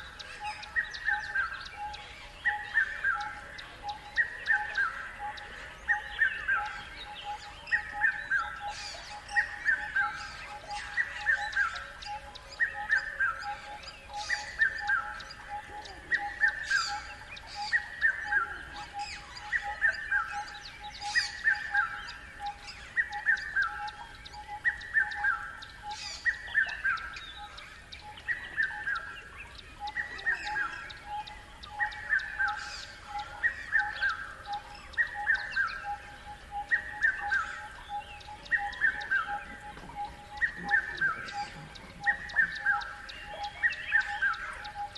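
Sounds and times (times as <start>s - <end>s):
bird calls: 0.0s - 44.9s.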